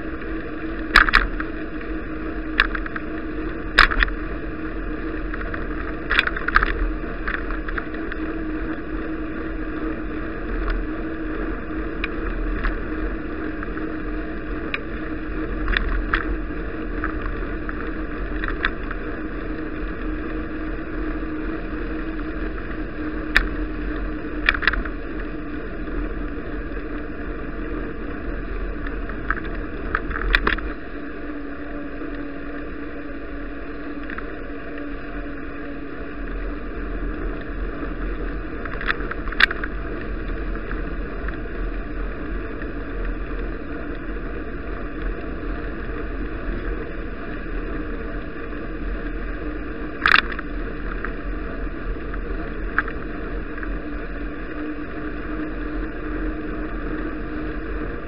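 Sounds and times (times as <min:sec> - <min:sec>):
bicycle ride noise: 0:00.0 - 0:58.0.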